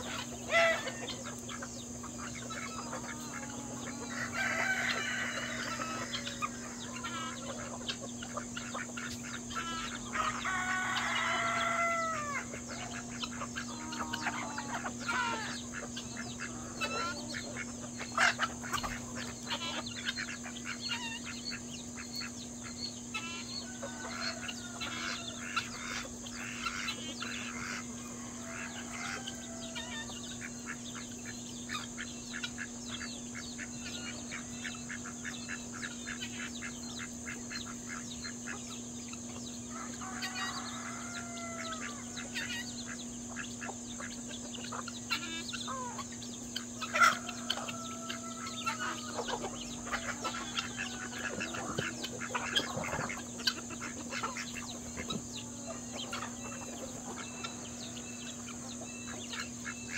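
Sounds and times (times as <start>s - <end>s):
poultry clucking and chirping: 0.0s - 59.9s.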